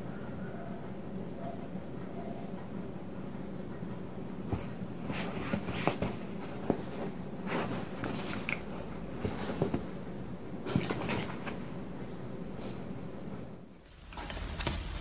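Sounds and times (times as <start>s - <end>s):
bedding rustling: 2.3s - 15.0s.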